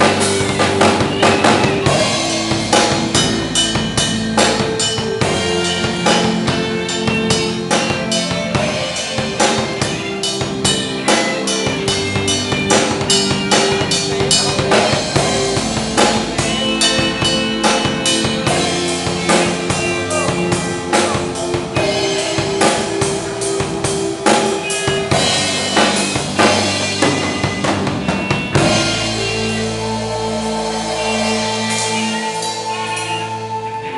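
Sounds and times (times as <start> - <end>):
bass keyboard and guitar notes: 0.0 - 33.9
drum kit playing: 0.0 - 33.9.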